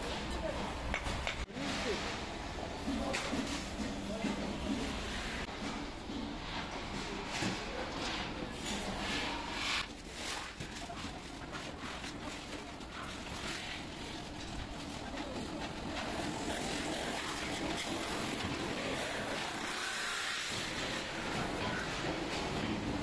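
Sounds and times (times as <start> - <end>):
workshop din: 0.0 - 23.0.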